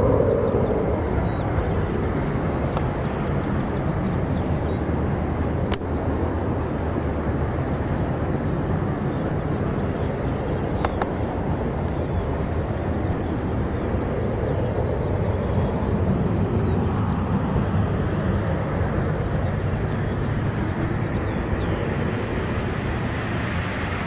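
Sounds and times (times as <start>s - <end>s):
jet airliner engine noise: 0.0s - 24.0s.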